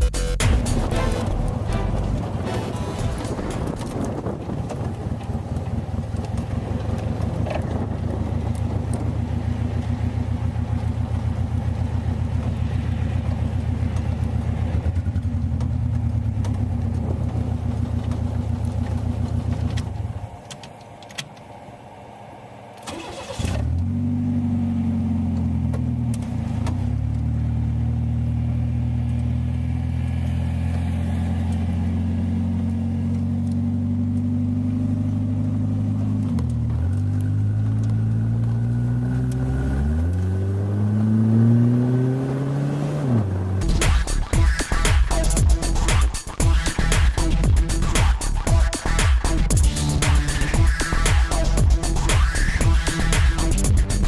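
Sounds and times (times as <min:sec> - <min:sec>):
three-wheeler engine running: 0:00.0 - 0:20.6, 0:22.8 - 0:54.0.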